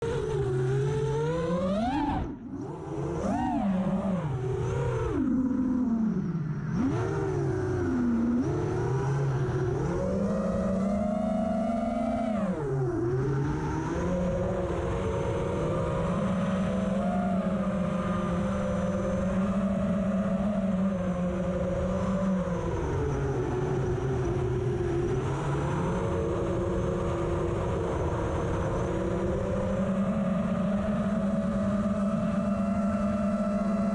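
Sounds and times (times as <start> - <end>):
quadcopter motors whining: 0.0 - 33.9.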